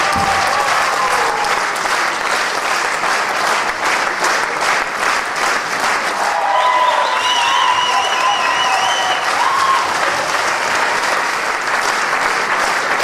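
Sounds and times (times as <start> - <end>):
crowd clapping: 0.0 - 13.0.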